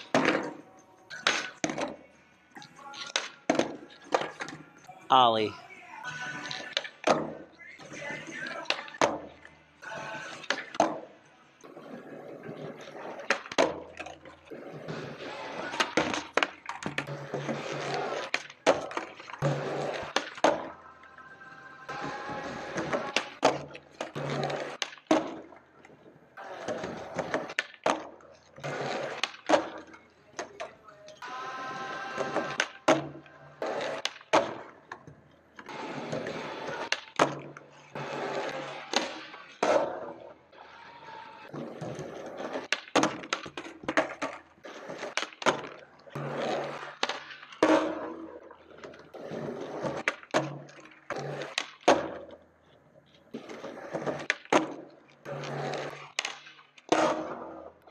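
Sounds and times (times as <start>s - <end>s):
skateboard clacks: 0.0s - 4.6s, 6.4s - 20.8s, 21.9s - 52.5s, 53.3s - 57.9s
skateboard wheels rolling on concrete: 0.0s - 57.9s.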